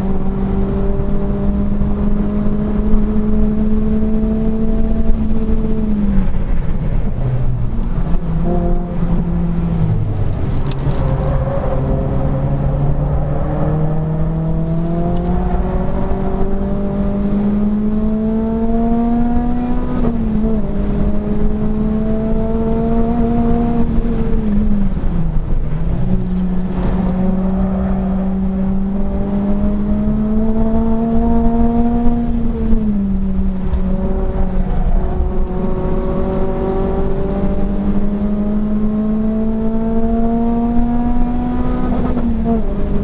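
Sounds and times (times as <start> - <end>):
car engine accelerating: 0.0 - 43.0
road and wind noise: 0.0 - 43.0.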